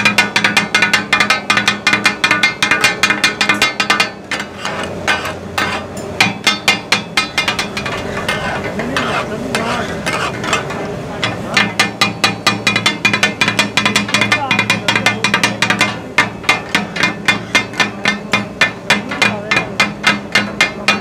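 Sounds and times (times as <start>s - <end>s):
steel blades clanking on griddle: 0.0s - 21.0s.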